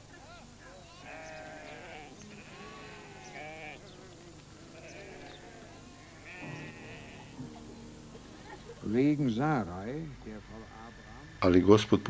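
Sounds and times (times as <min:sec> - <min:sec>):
sheep bleating: 0:00.0 - 0:11.3.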